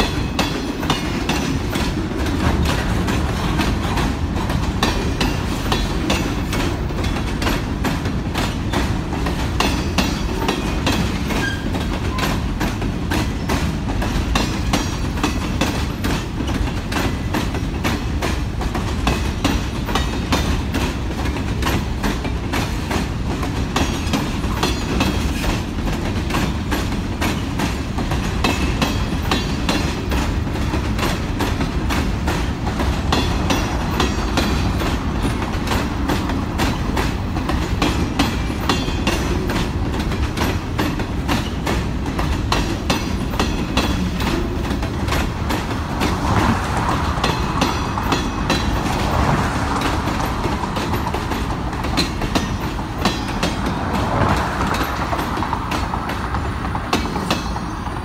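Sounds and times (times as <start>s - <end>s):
steel wheels clickety-clack on rails: 0.0s - 58.0s.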